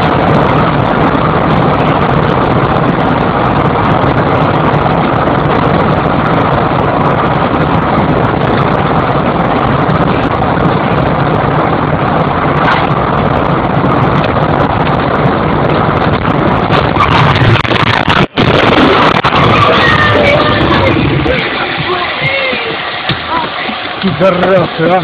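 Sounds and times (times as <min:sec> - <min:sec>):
car road and engine noise: 0:00.0 - 0:25.0.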